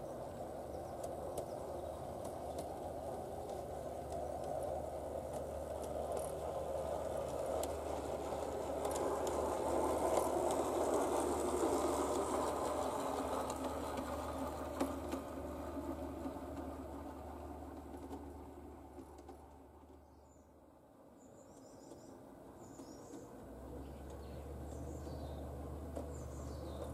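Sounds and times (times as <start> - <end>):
model streetcar rumbling on track: 0.0 - 20.6, 21.4 - 26.9.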